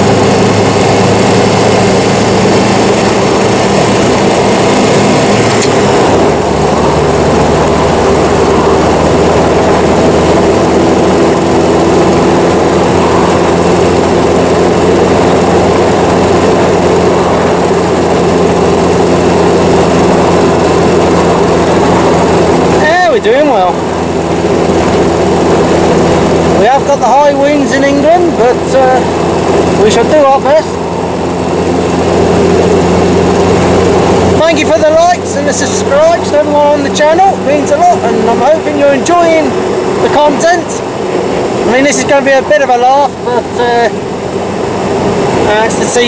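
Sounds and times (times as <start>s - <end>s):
car engine running: 0.0s - 46.0s
road and wind noise: 0.0s - 46.0s.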